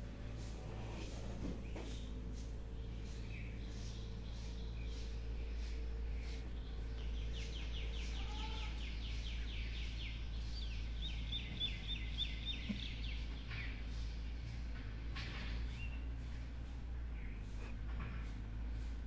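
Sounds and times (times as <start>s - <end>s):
steady low rumble: 0.0s - 19.0s
bird chirping: 0.4s - 17.9s.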